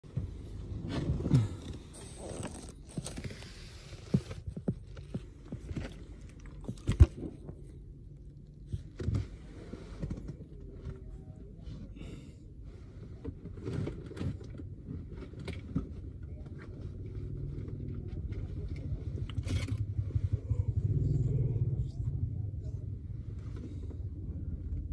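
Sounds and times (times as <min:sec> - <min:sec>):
low street rumble: 0:00.0 - 0:24.9.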